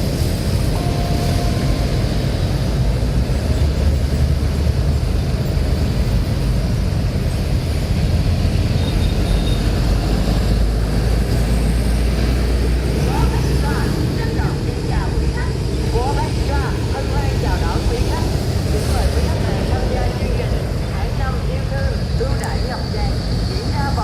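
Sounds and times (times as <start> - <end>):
large vehicle engine rumbling: 0.0 - 24.0.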